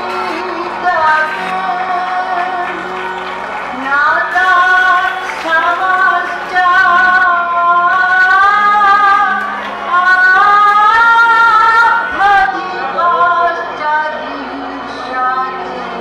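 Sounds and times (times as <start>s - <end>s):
woman singing slow song: 0.0s - 3.0s, 3.7s - 16.0s.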